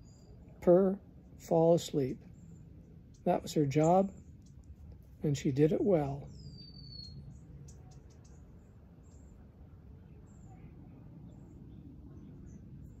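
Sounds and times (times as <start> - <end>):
faint bird chirps: 0.0 - 0.6, 2.0 - 5.0, 6.0 - 13.0
steady low rumble: 0.0 - 13.0.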